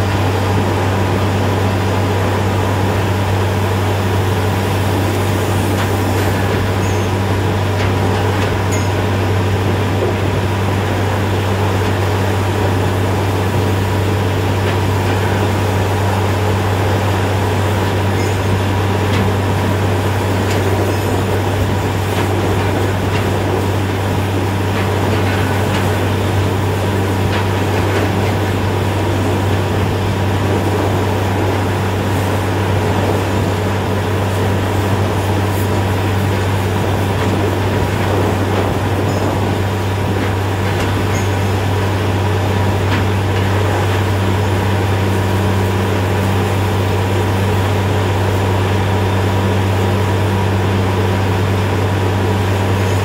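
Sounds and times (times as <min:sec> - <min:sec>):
drilling rig engine hum: 0:00.0 - 0:53.0.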